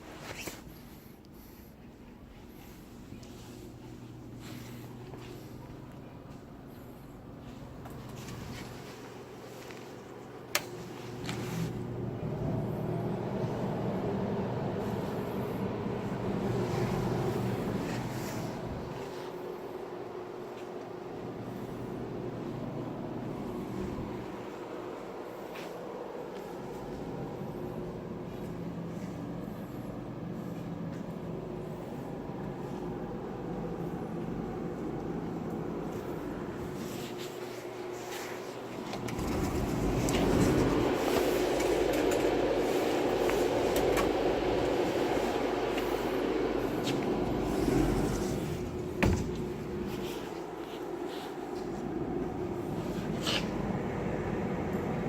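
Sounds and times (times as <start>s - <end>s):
refrigeration unit hum: 0.0s - 55.0s.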